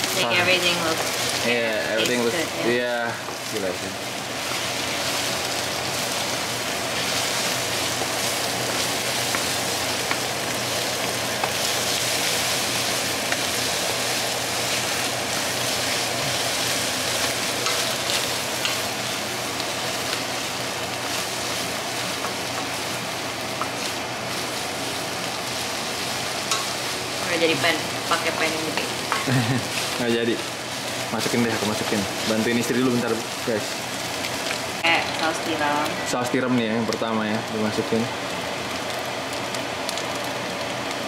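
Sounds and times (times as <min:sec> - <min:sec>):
eggs sizzling in skillet: 0:00.0 - 0:41.0.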